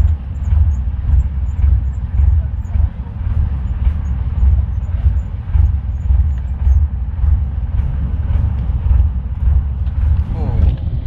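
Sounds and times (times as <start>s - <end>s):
boat noise: 0.0s - 11.0s
wind buffeting microphone: 0.0s - 11.0s.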